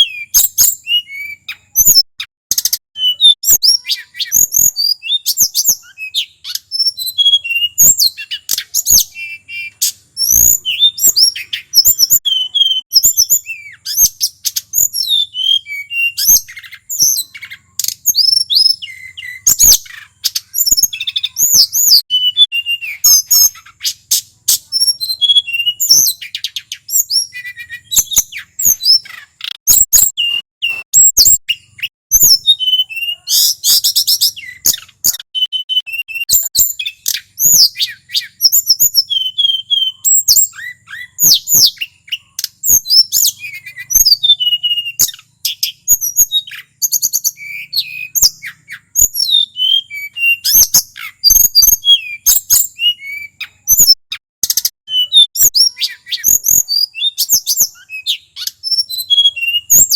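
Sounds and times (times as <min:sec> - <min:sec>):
bird singing whistled phrases: 0:00.0 - 0:59.9.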